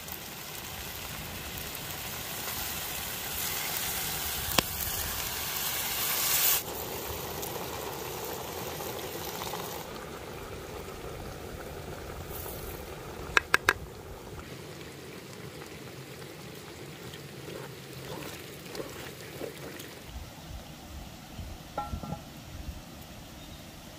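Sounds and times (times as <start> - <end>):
beer hissing in hot pot: 0.0 - 21.4
stew boiling: 0.0 - 23.3.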